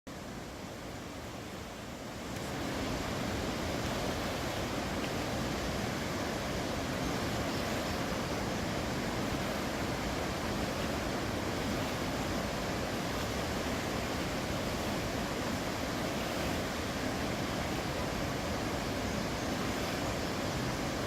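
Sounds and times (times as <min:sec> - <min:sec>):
whitewater rapids rushing: 0:00.1 - 0:21.0.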